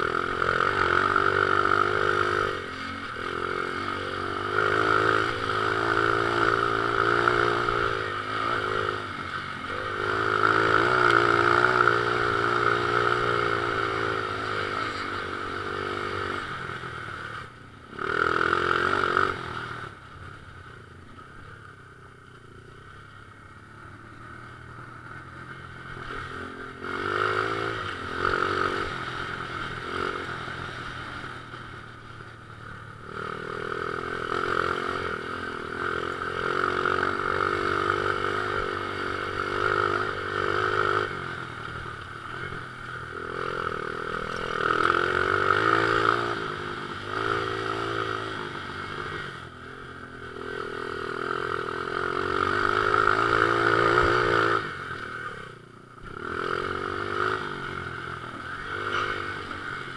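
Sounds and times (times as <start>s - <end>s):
pit bike engine revving: 0.0s - 20.5s, 22.9s - 59.9s.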